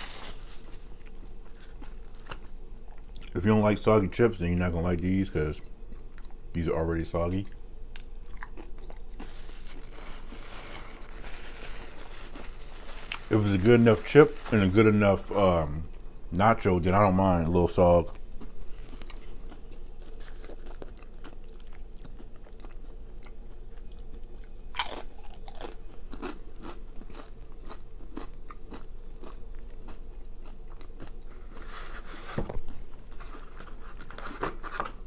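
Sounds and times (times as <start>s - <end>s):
person chewing chips: 0.0s - 3.3s, 7.2s - 16.1s, 18.1s - 35.0s.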